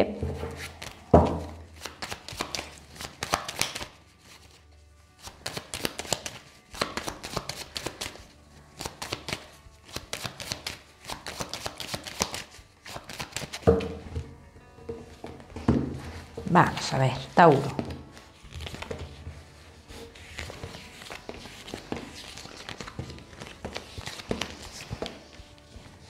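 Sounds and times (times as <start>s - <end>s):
cards being shuffled: 0.3s - 4.6s, 5.2s - 14.0s, 17.2s - 26.0s.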